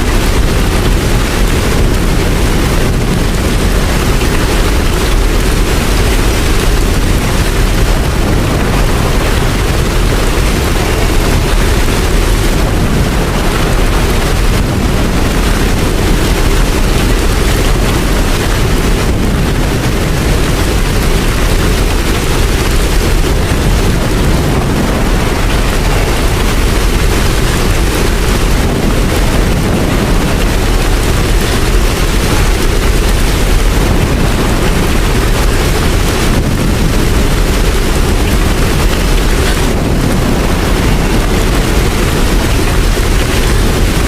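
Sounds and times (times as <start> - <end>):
heavy rain: 0.0 - 44.0.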